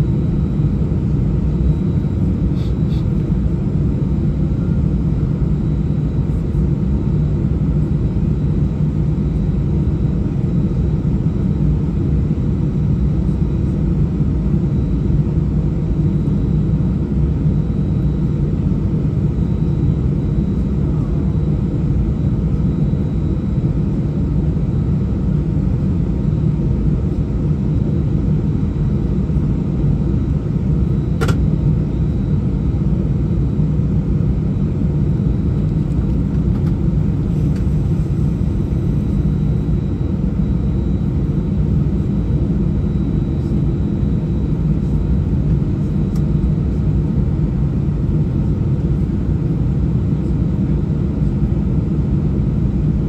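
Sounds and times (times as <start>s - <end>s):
aircraft cabin rumble: 0.1s - 53.0s.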